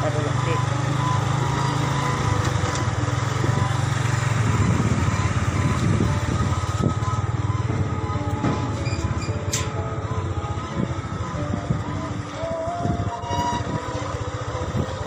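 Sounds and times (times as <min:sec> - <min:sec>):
road and air noise: 0:00.0 - 0:15.0
small motorcycle engine droning: 0:00.0 - 0:15.0.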